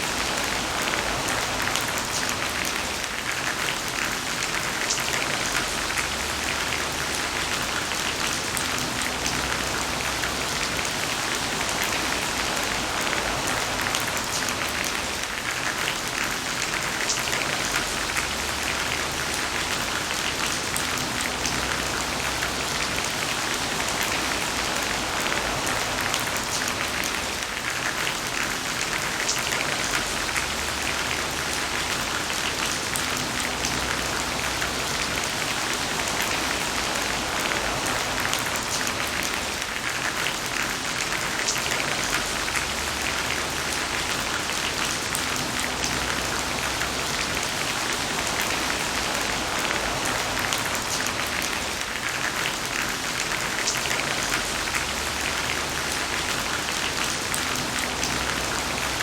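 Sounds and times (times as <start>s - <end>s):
heavy rain falling: 0.0s - 59.0s
raindrop splashes: 0.0s - 59.0s.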